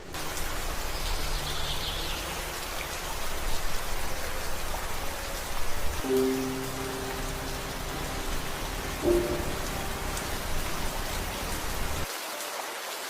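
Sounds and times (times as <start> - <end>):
rain falling in forest: 0.0 - 13.0.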